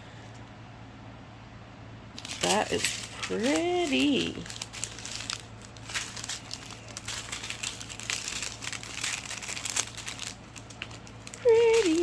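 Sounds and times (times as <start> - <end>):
plastic packaging crinkling: 2.2 - 12.0.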